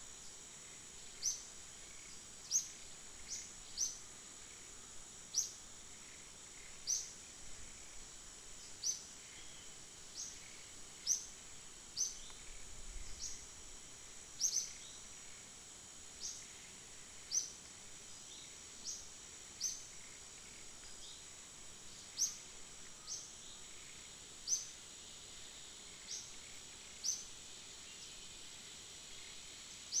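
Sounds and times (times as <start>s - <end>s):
insect drone: 0.0s - 30.0s.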